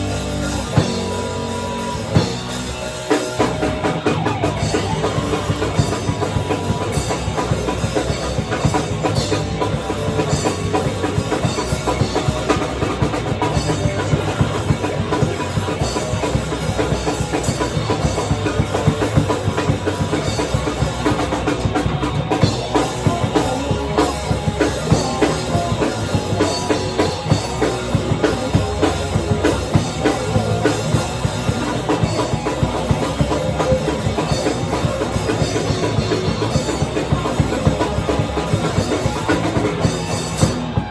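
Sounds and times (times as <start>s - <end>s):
live rock band playing: 0.0s - 40.9s
rapid drum hits: 0.0s - 40.9s.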